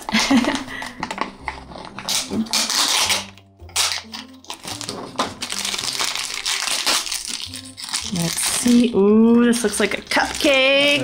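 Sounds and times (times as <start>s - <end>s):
packaging crinkling and rustling: 0.0s - 8.9s, 9.5s - 11.0s.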